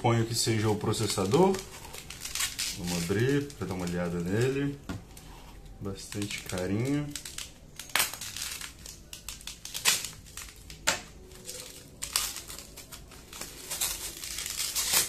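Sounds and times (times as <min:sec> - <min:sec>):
wrapping crinkling and rustling: 0:00.1 - 0:15.0.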